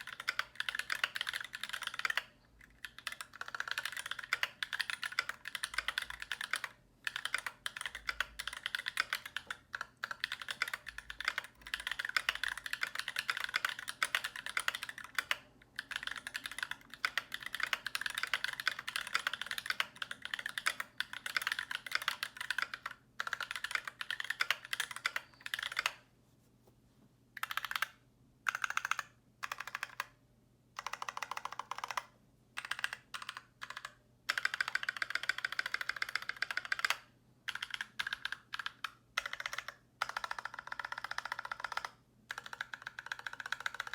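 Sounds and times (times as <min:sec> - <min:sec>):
mechanical keyboard typing: 0:00.0 - 0:26.0, 0:27.4 - 0:30.2, 0:30.8 - 0:43.9.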